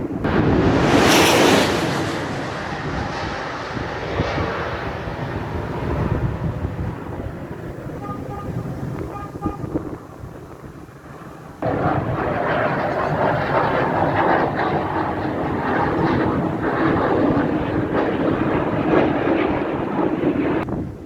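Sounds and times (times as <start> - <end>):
aircraft engine noise: 0.0 - 21.0.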